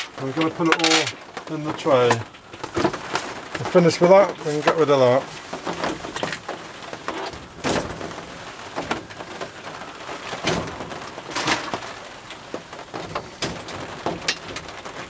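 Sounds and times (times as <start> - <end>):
packaging rustling and crackling: 0.0 - 15.0.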